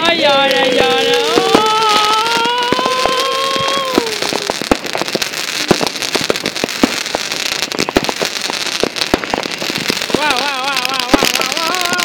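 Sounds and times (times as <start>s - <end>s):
firework crackling pops: 0.0s - 12.0s
firework whistling: 0.0s - 12.0s.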